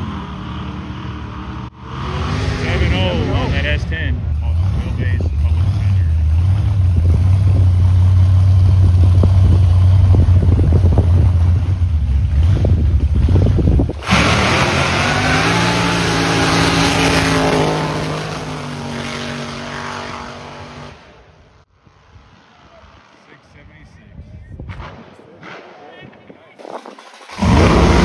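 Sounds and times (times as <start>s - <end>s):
drag car engine rumbling: 0.0s - 21.3s, 26.4s - 28.0s.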